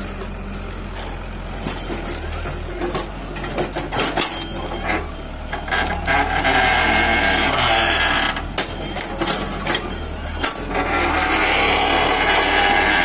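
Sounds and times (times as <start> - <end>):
heavy machine engine hum: 0.0 - 13.0
metallic clanks and squeaks: 1.0 - 13.0.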